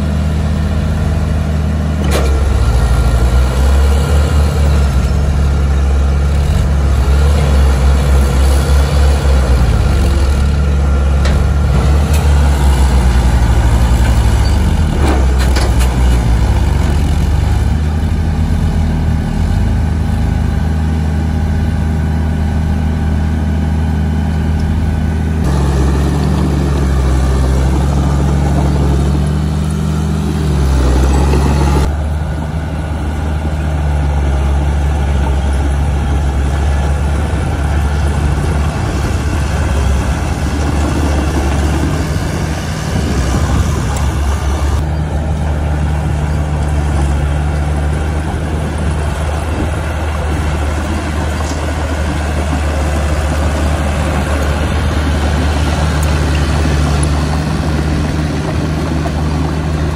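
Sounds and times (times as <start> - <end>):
heavy machinery diesel engines: 0.0 - 59.9.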